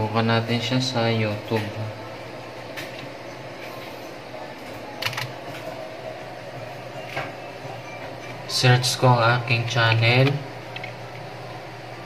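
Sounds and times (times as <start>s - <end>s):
computer fan humming: 0.0s - 12.0s.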